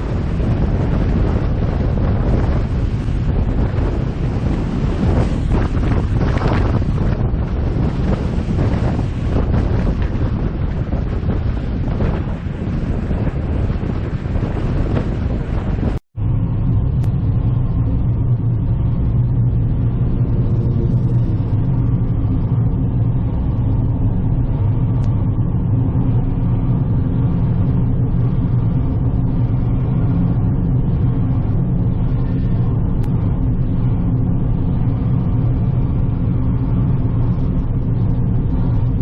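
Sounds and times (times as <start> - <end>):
car engine and road hum: 0.0 - 39.0.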